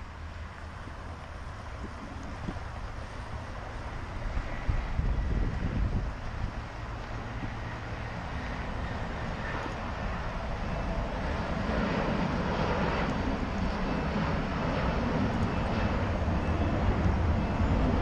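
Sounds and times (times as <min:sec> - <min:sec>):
jet airliner taking off: 0:00.0 - 0:18.0.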